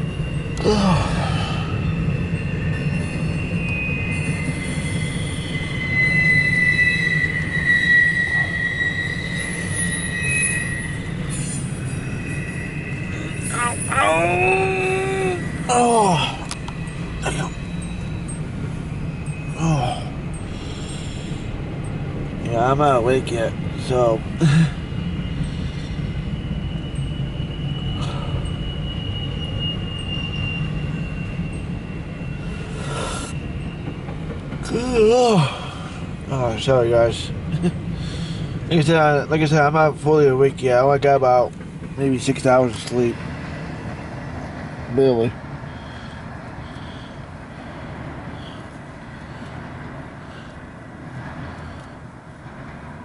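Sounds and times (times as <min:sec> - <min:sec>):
high-pitched wheel squeal: 0:00.0 - 0:24.2, 0:24.8 - 0:50.6
wheels rumbling on rail: 0:00.0 - 0:53.0.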